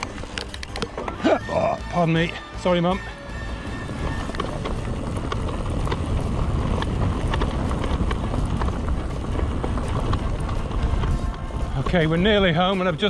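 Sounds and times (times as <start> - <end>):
bike clicks and rattles: 0.0 - 1.3, 2.1 - 13.0
bike tyre rumble: 0.0 - 13.0
wind buffeting microphone: 0.0 - 13.0.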